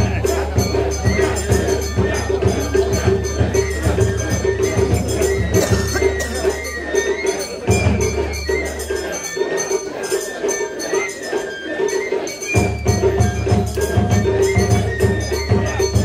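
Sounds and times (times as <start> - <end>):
high wavering melody: 0.0 - 16.0
jingling percussion: 0.0 - 16.0.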